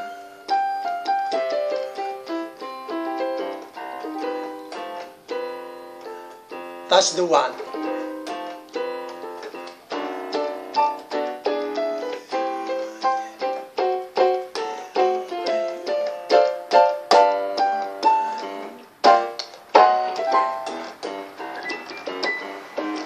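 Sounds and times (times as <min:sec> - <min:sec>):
digital piano chords and melody: 0:00.0 - 0:23.0.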